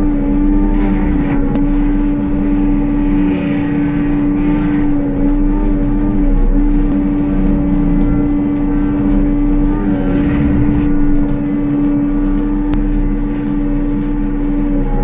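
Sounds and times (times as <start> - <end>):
heavy machine engine running: 0.0 - 15.0
high-pitched hum: 0.0 - 15.0.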